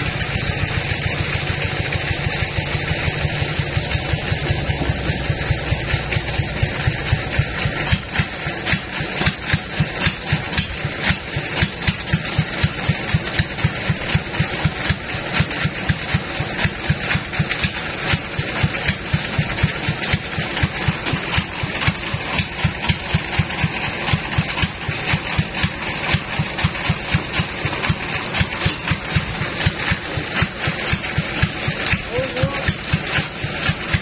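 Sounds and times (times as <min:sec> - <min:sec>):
diesel engine thudding: 0:00.0 - 0:34.0.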